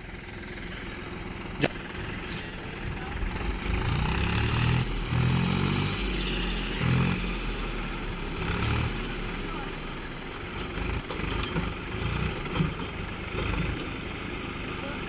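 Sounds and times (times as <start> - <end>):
tractor diesel engine labouring: 0.0 - 15.0.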